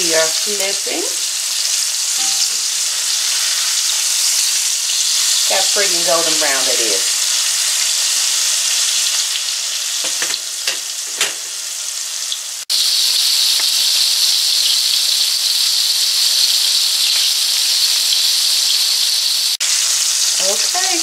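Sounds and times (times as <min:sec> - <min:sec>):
oil sizzling in a skillet: 0:00.0 - 0:21.0.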